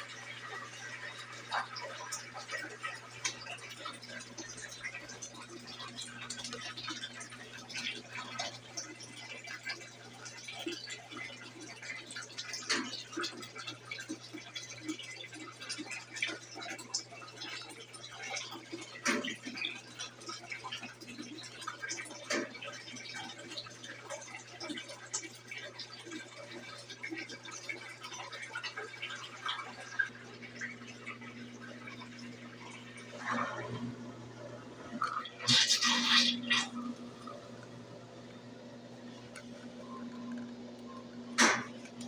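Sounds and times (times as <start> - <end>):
washing machine low hum: 0.0 - 42.0
water sloshing in washing machine: 0.0 - 42.0.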